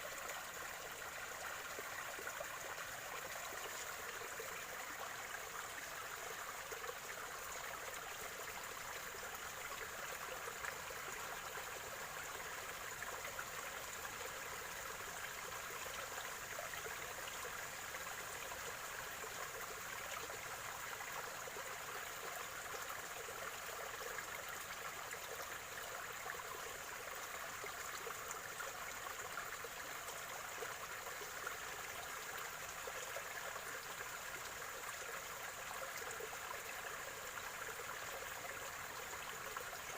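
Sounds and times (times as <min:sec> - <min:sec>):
stream gurgling and trickling: 0:00.0 - 0:39.9.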